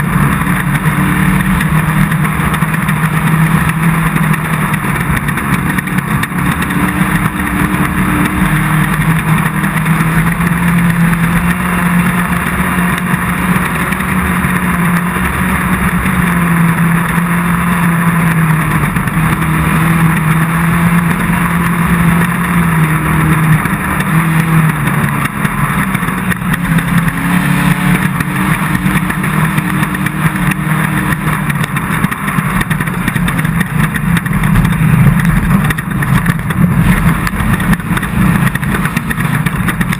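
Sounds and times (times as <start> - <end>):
race car engine running hard: 0.0 - 39.9
wind tyre and terrain noise: 0.0 - 39.9.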